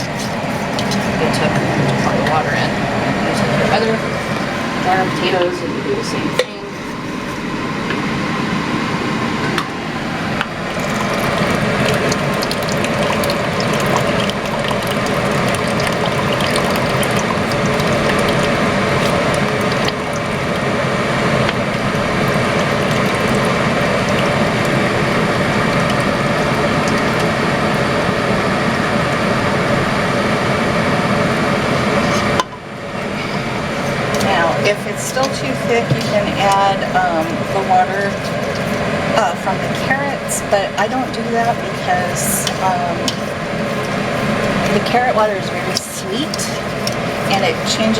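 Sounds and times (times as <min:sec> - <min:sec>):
liquid pouring into a pot: 0:00.0 - 0:02.9, 0:10.5 - 0:32.4, 0:33.6 - 0:47.9
utensil scraping a pot: 0:00.0 - 0:07.9, 0:10.7 - 0:32.4, 0:33.0 - 0:47.9.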